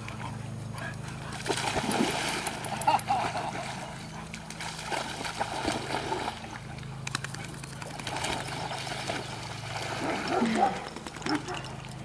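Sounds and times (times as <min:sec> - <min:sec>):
dogs splashing water: 0:00.0 - 0:12.0.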